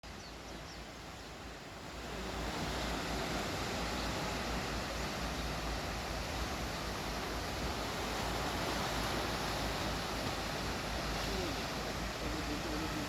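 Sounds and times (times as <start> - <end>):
sea waves washing ashore: 0.0 - 13.0.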